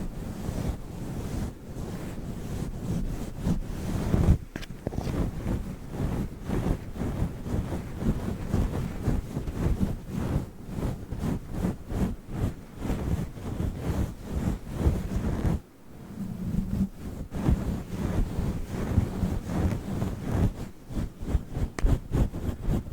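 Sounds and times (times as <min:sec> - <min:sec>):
microphone windscreen being rubbed: 0:00.0 - 0:22.9.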